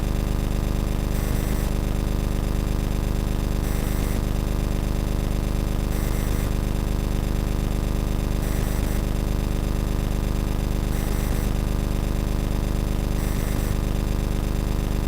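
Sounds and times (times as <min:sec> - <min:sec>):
low buzzing hum: 0:00.0 - 0:04.4, 0:05.2 - 0:15.0.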